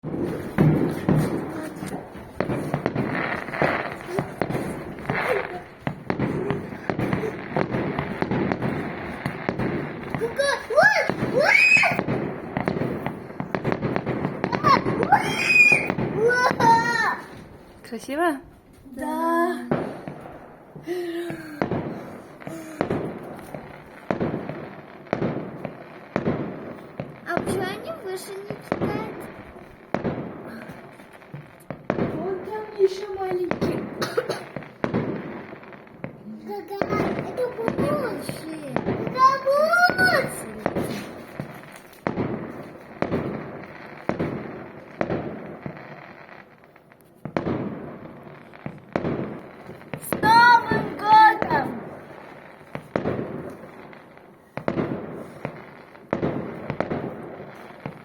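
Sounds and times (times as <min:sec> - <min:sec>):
fireworks bangs with rumbling echo: 0:00.0 - 0:58.0.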